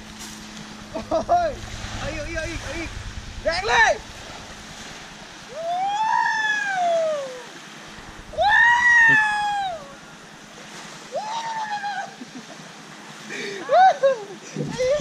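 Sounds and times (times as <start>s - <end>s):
small waves washing: 0.0s - 15.0s.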